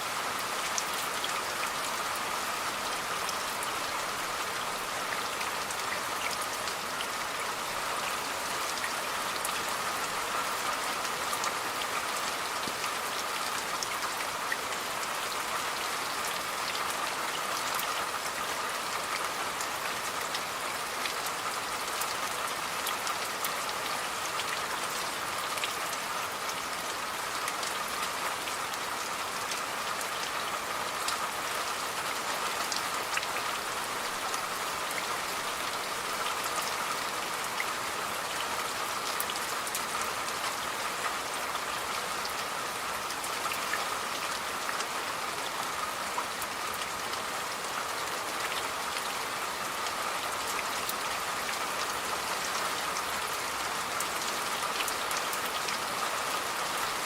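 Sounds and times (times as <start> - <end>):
steady rain falling: 0.0 - 57.0
raindrops ticking on a surface: 0.1 - 57.0.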